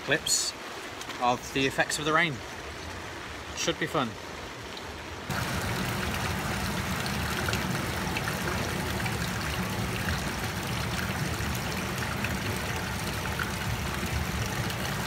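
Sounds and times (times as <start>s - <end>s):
rainwater rushing along drain: 0.0s - 15.0s.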